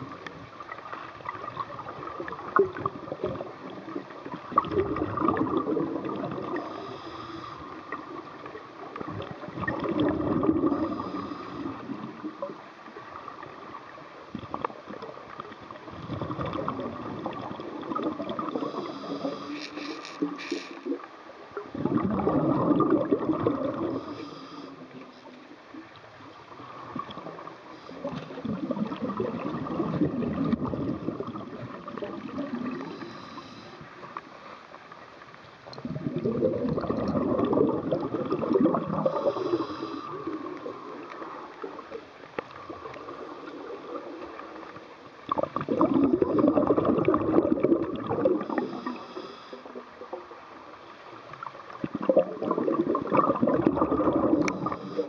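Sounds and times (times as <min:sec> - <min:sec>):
underwater water noise: 0:00.0 - 0:55.0
diver exhaling bubbles underwater: 0:01.3 - 0:12.6, 0:15.9 - 0:24.7, 0:26.7 - 0:33.6, 0:35.8 - 0:42.0, 0:42.6 - 0:50.2, 0:51.7 - 0:55.0.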